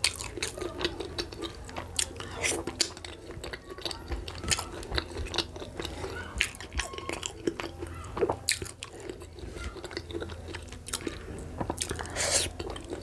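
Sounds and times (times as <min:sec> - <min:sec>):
faint low hum: 0:00.0 - 0:13.0
person chewing with wet clicks: 0:00.0 - 0:13.0.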